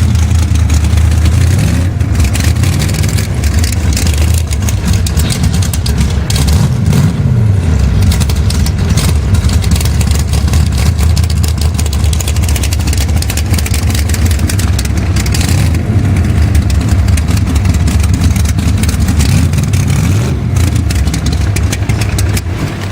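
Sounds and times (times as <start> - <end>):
drag car engine idling and revving: 0.0 - 22.9.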